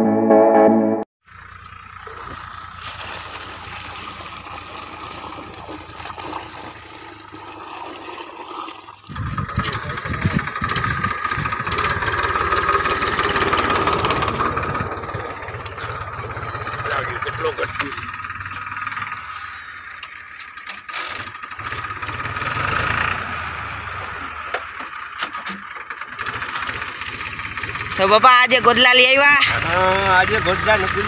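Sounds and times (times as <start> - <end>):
tractor diesel engine running: 1.2 - 31.0.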